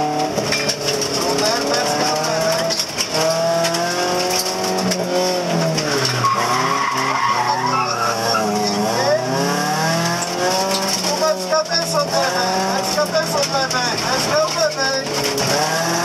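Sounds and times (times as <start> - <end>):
rally car engine revving: 0.0 - 16.0
tyres squealing: 0.4 - 16.0.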